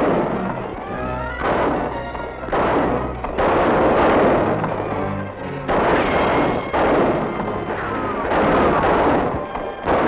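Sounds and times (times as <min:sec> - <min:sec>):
echoing gunshots: 0:00.0 - 0:00.7, 0:01.3 - 0:10.0
dramatic background music: 0:00.0 - 0:10.0.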